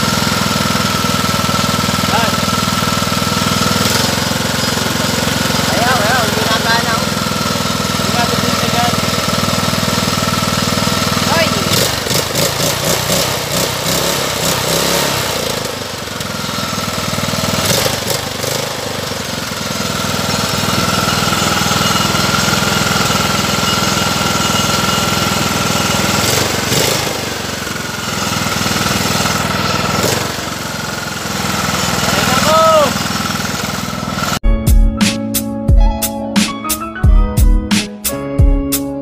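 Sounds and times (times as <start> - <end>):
lawn mower engine running: 0.0 - 35.2.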